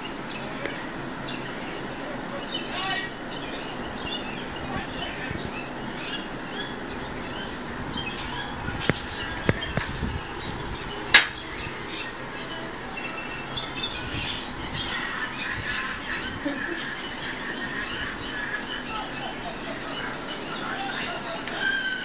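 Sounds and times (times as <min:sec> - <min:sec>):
small bird chirping: 0:00.0 - 0:22.0.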